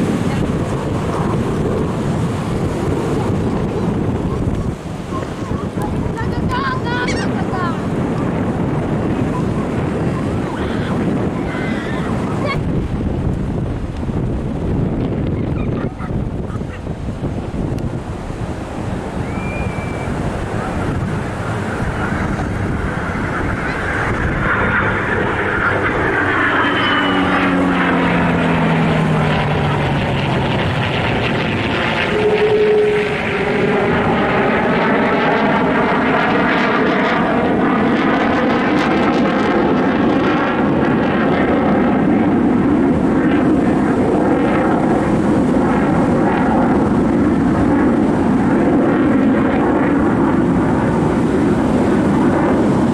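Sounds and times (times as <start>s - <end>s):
airplane engine flying over: 0.0s - 52.9s.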